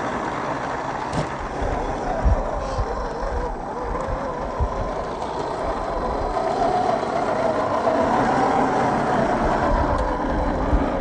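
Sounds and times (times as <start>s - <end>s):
toy car drivetrain whining: 0.0s - 11.0s.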